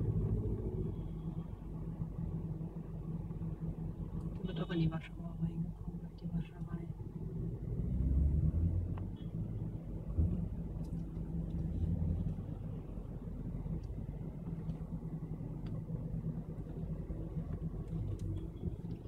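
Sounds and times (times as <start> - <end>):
car engine low hum: 0.0 - 19.0.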